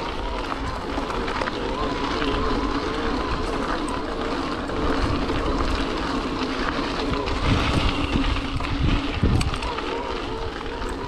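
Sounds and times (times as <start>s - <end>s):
electric bike motor whining: 0.0s - 11.0s
wind noise on microphone: 0.0s - 11.0s.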